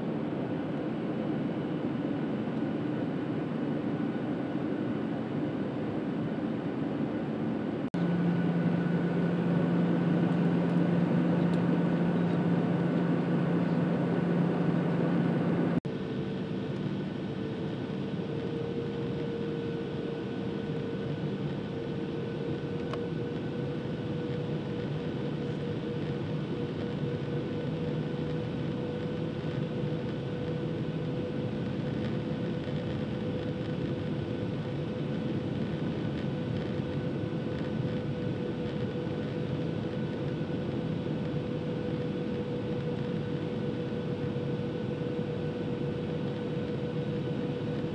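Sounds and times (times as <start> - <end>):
airflow rushing in airplane cabin: 0.0 - 47.9
jet engines droning: 0.0 - 47.9.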